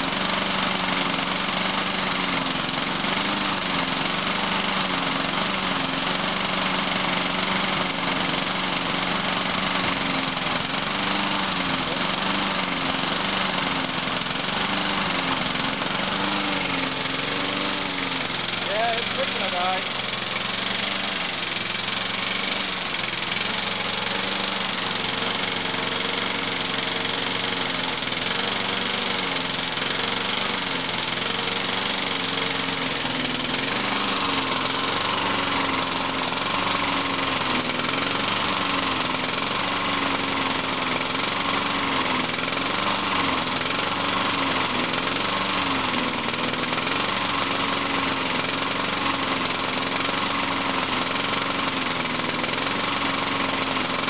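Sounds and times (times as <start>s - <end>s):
lawnmower engine surging: 0.0s - 54.0s.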